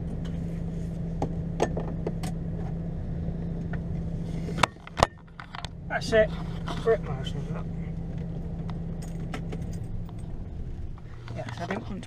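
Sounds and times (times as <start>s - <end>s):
lorry diesel engine drone: 0.0s - 12.0s.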